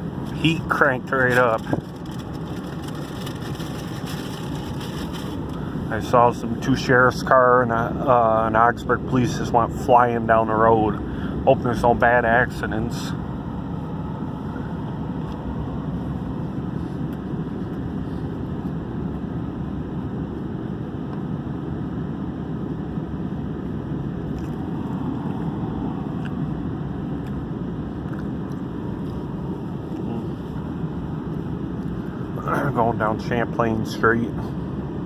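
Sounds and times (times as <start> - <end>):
heater fan blowing: 0.0 - 35.0
road and engine noise in cabin: 0.0 - 35.0.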